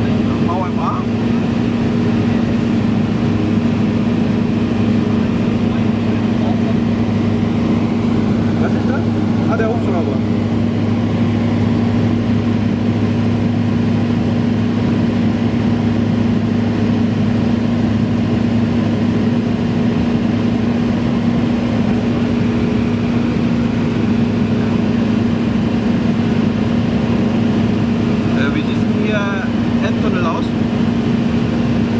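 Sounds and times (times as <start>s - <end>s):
propeller plane engine droning: 0.0s - 31.9s.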